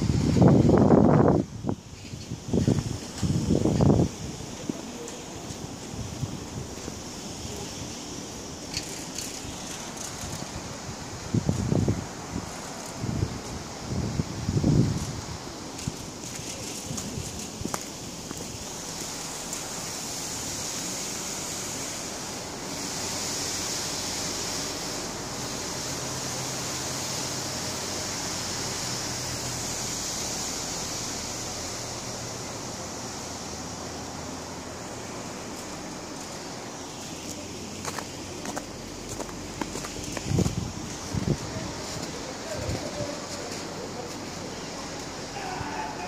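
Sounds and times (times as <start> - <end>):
outdoor hiss: 0.0 - 46.0.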